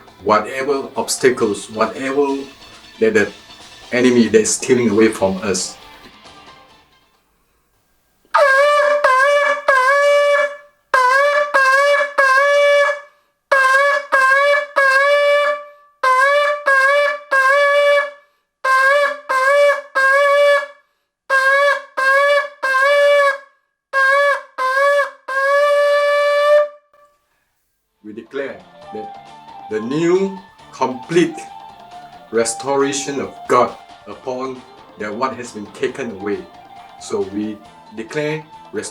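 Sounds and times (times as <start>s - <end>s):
ram's horn blasts: 0.0s - 5.9s, 8.3s - 20.7s, 21.3s - 23.4s, 24.0s - 27.1s, 28.8s - 38.9s.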